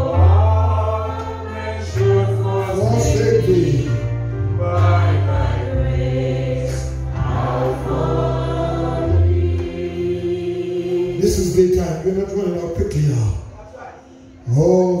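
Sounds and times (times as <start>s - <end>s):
group singing gospel: 0.0s - 13.3s.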